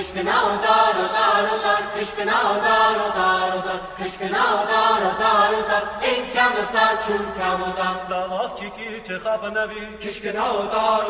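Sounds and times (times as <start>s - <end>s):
vocal ensemble singing: 0.0s - 11.0s.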